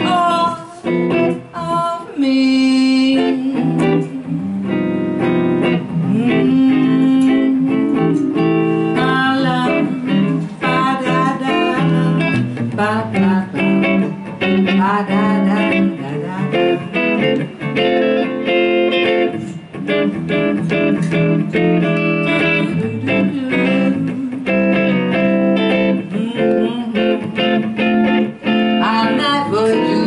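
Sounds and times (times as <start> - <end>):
electric jazz guitar melody: 0.0 - 30.0.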